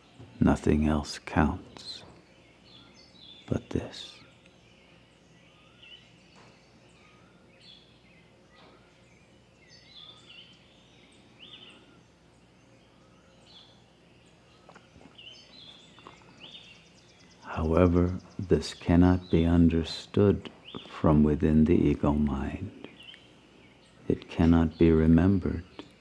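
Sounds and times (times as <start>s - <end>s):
birds chirping and whistling: 0.0s - 26.0s
low steady hum: 0.0s - 26.0s.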